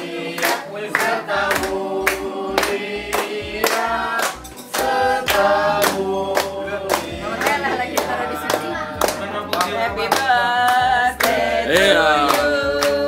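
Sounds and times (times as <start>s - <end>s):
voices singing together: 0.0s - 13.0s
sharp claps: 0.4s - 11.5s.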